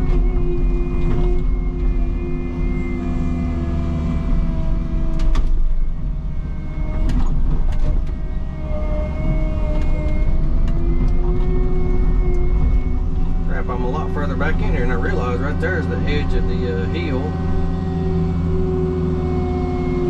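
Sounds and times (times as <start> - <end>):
excavator diesel engine under load: 0.0 - 20.0.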